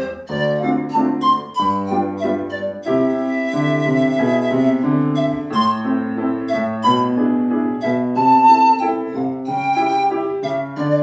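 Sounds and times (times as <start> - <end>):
pan flute melody: 0.0 - 11.0
piano chords: 0.0 - 11.0.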